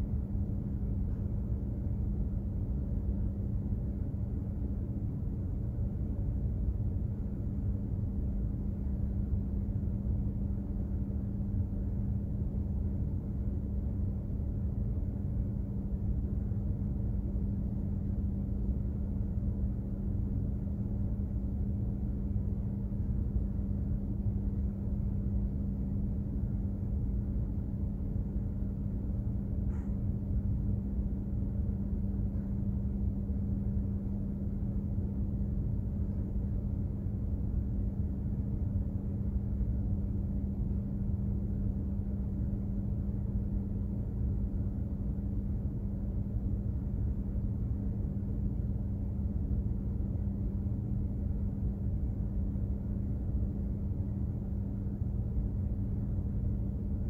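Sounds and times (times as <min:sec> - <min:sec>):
engine droning hum: 0:00.0 - 0:57.0.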